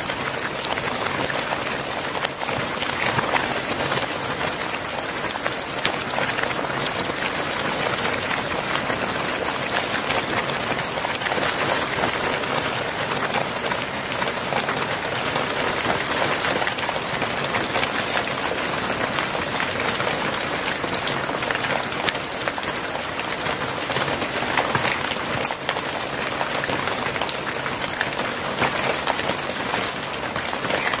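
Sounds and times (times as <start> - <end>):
hail and rain pelting tiles: 0.0 - 31.0.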